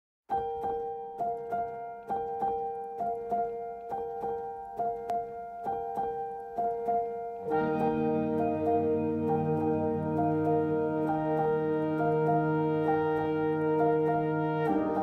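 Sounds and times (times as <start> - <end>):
piano music: 0.3 - 15.0.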